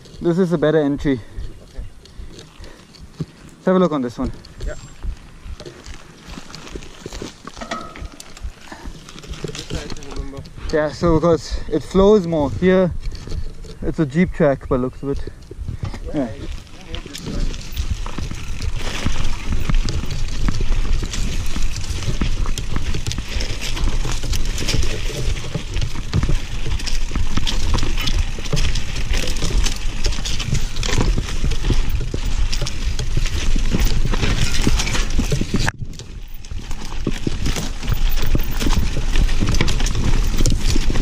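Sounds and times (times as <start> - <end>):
bike rattling: 0.0 - 41.0
bike tyres crunching over stones: 0.0 - 41.0.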